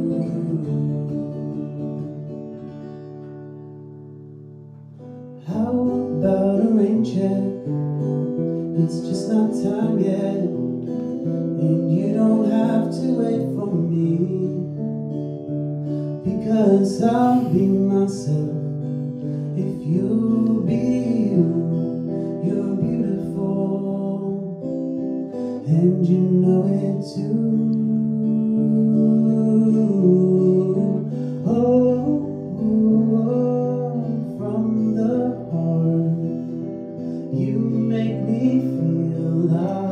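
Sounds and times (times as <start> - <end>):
man singing: 0.0 - 2.0, 5.4 - 14.9, 16.1 - 39.9
strummed acoustic guitar: 0.0 - 39.9.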